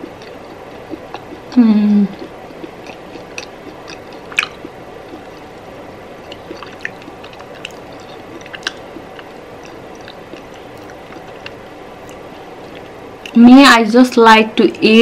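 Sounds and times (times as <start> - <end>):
person chewing chocolate: 0.0 - 13.4.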